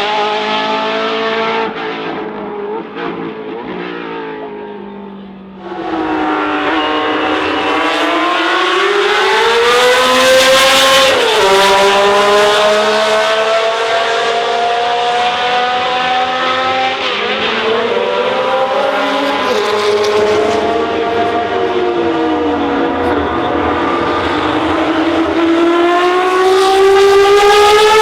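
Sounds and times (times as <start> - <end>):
racing car engine revving: 5.6 - 28.0.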